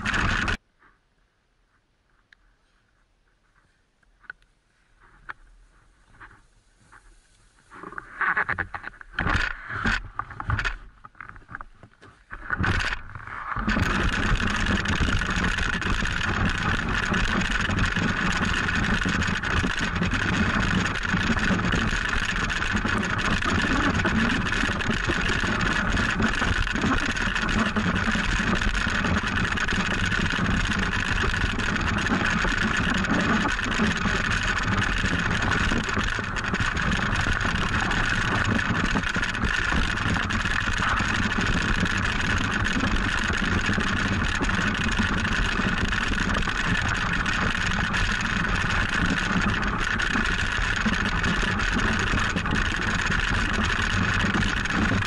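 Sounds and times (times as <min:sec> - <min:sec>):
sled runners scraping on snow: 0:04.7 - 0:10.6, 0:12.0 - 0:55.0.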